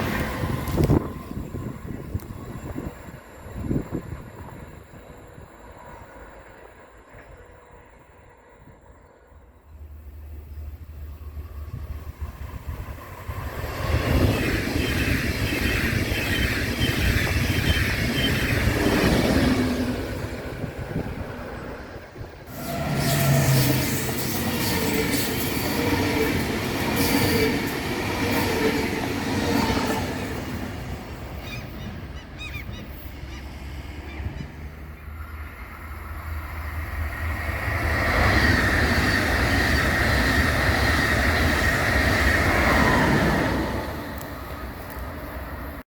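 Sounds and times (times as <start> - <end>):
train passing at speed: 0.0 - 45.8.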